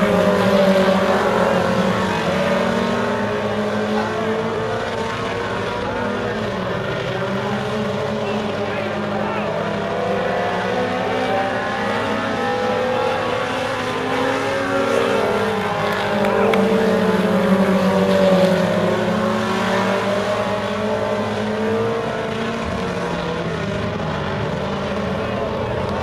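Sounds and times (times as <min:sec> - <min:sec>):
race car engines revving: 0:00.0 - 0:26.0.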